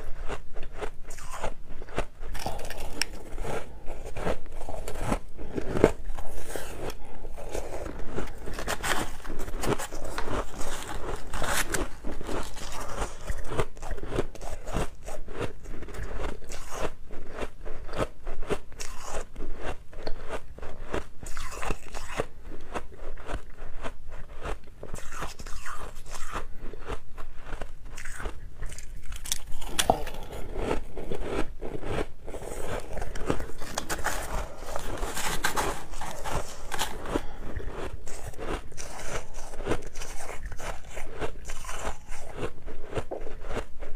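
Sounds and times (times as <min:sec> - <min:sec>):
chewing crunchy ice: 0:00.0 - 0:43.9.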